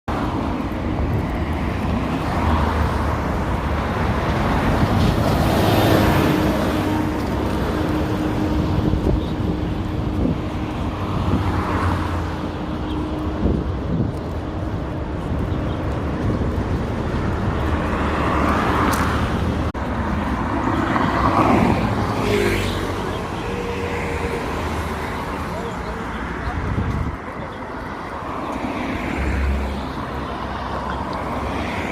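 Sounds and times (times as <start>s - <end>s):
cars passing: 0.1s - 31.9s
traffic rumble: 0.1s - 31.9s.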